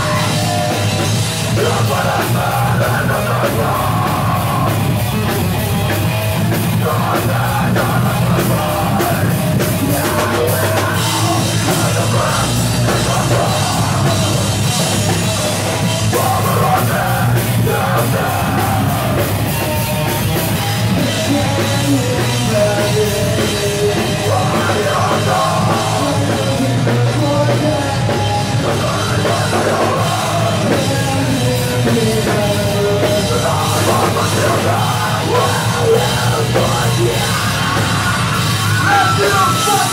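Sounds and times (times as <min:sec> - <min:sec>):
live metal band playing: 0:00.0 - 0:39.9.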